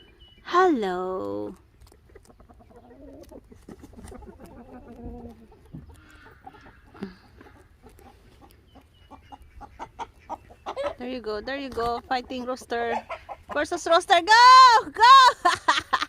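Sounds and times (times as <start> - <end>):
chickens clucking: 1.3 - 14.3.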